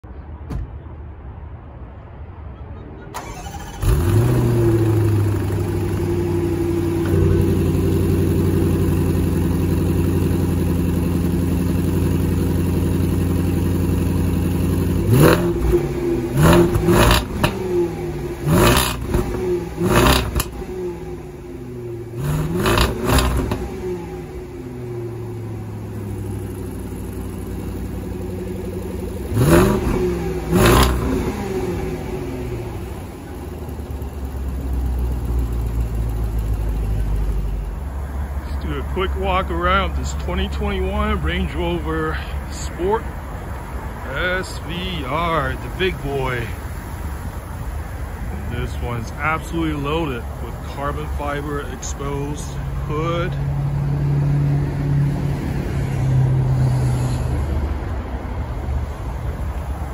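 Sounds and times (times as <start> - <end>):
car engine idling: 3.2 - 55.6, 57.6 - 59.9.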